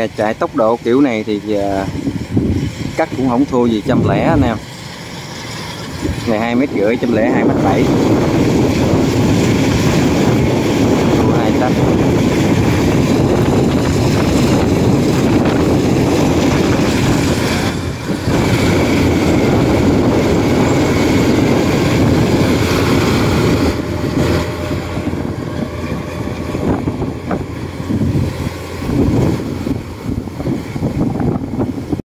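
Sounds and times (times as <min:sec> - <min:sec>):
combine harvester diesel engine: 0:00.0 - 0:32.0
wind buffeting microphone: 0:00.0 - 0:32.0.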